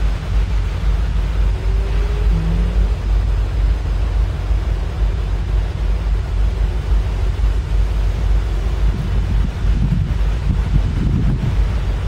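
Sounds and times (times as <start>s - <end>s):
locomotive engines rumbling: 0.0s - 12.0s.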